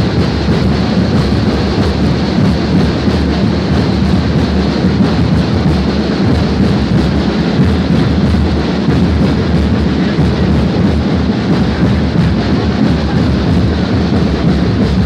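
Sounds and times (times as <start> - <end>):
crowd din: 0.0 - 15.0.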